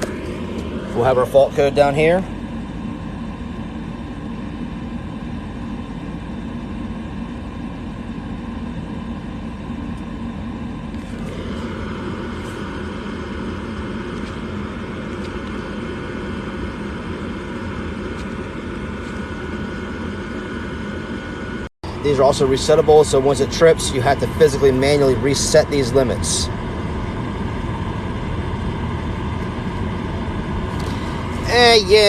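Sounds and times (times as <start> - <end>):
furnace fan motor running: 0.0 - 32.0
thin high steady whine: 0.0 - 32.0.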